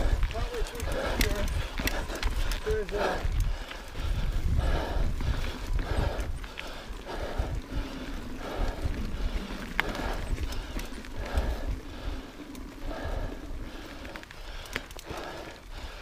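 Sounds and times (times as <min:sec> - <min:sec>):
bike on dirt trail: 0:00.0 - 0:16.0
bike rattling over wooden planks: 0:00.0 - 0:16.0.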